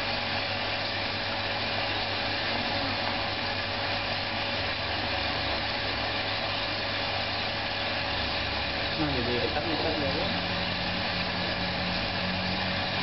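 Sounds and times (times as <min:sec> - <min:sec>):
motor running: 0:00.0 - 0:13.0.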